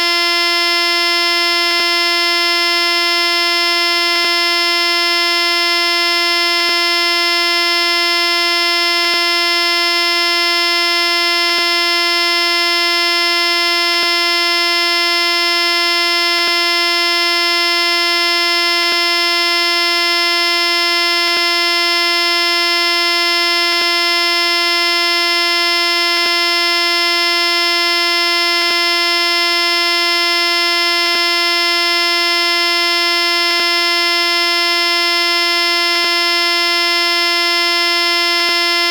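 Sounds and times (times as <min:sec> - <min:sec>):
steady buzzing tone: 0:00.0 - 0:38.9.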